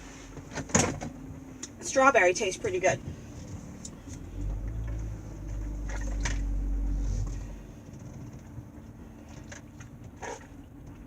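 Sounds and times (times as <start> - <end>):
car interior hum: 0.0 - 11.0
heavy rumble: 0.0 - 11.0.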